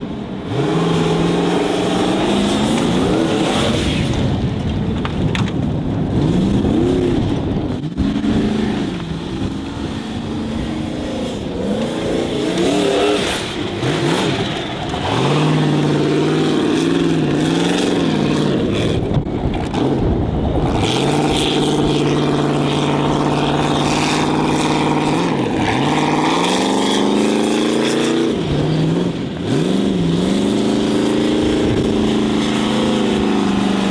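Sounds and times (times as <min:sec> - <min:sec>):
racing buggy engine revving: 0:00.0 - 0:33.9.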